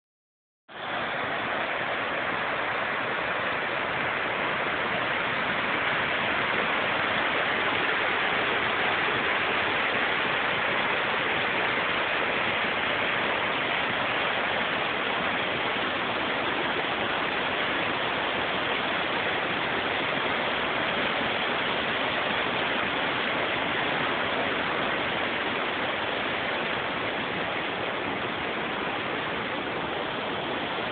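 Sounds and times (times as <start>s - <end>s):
creek water rushing: 0.7s - 30.9s.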